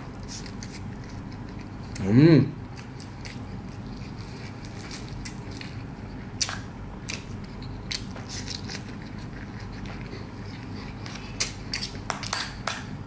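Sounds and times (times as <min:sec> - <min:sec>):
chewing: 0:00.1 - 0:02.1, 0:02.7 - 0:12.8.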